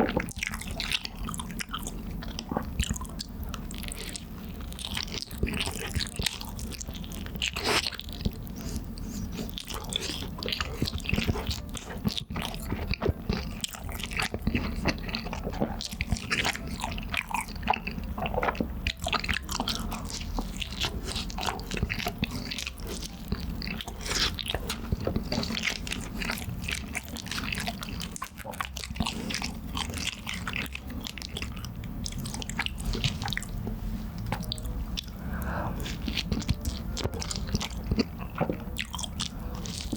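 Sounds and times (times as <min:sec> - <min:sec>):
chewing and biting food: 0:00.0 - 0:39.9.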